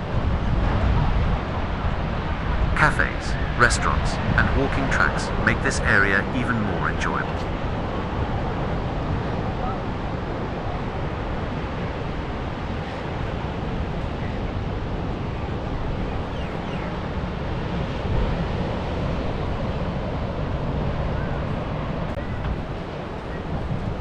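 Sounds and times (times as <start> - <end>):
ocean surf washing in: 0.0 - 24.0.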